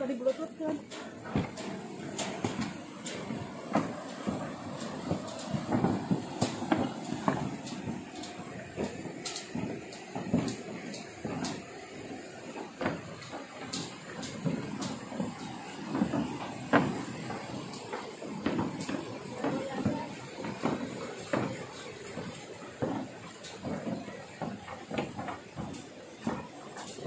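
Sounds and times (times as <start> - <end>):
footsteps on wooden planks: 0.0 - 27.0.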